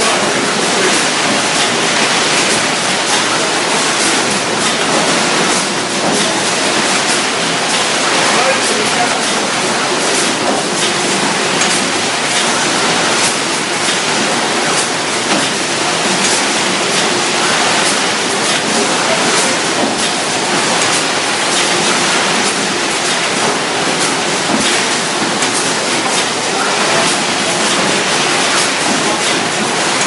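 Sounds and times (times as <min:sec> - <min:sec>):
industrial machinery running: 0:00.0 - 0:30.0.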